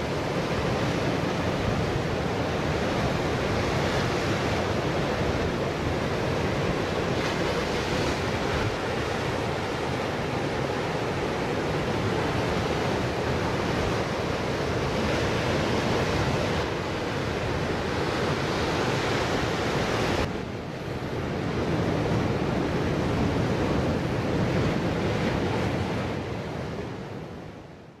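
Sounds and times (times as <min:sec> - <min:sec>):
ocean surf breaking on rocks: 0:00.0 - 0:27.5.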